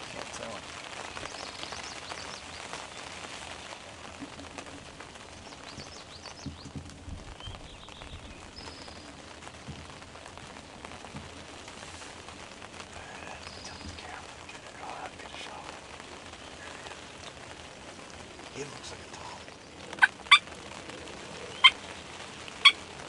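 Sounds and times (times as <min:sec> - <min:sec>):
rain pattering: 0:00.0 - 0:23.0
small birds chirping: 0:00.1 - 0:23.0.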